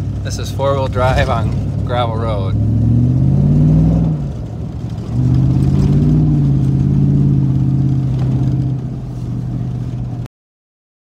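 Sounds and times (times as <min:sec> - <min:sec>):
truck engine accelerating: 0:00.0 - 0:10.3.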